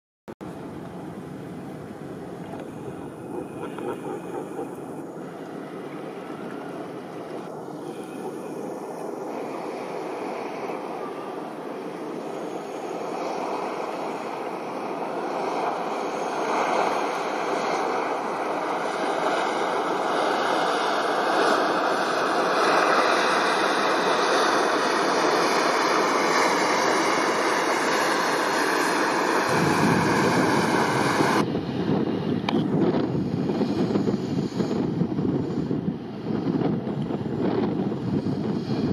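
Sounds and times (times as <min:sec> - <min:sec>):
boat bow wave rushing: 0:00.4 - 0:38.9
boat engine noise: 0:00.4 - 0:38.9
wind buffeting microphone: 0:00.5 - 0:23.5, 0:25.8 - 0:38.9.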